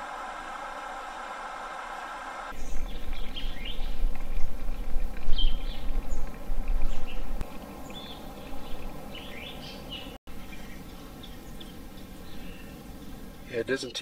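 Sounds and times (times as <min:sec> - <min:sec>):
small birds chirping: 0:02.5 - 0:14.0.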